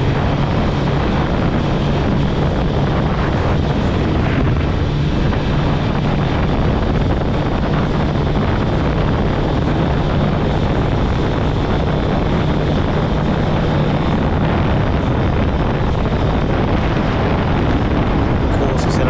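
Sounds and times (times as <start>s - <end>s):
motorcycle engine running: 0.0s - 18.8s
wind noise on microphone: 0.0s - 19.0s.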